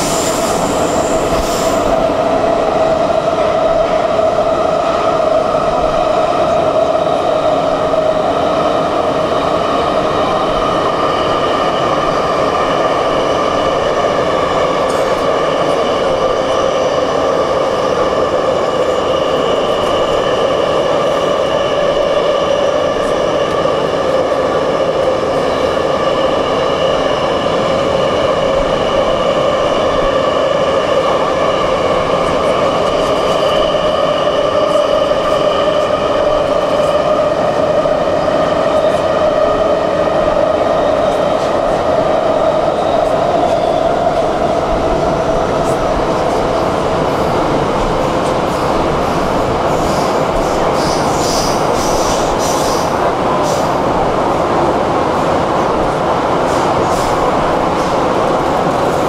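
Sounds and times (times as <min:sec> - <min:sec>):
metro train rumble: 0:00.0 - 0:59.0
train whine of steady tones: 0:00.0 - 0:59.0.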